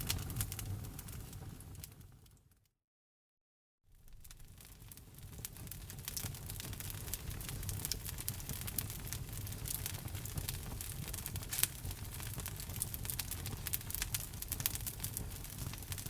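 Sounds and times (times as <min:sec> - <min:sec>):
wood fire crackling and popping: 0:00.0 - 0:02.4, 0:04.0 - 0:16.0.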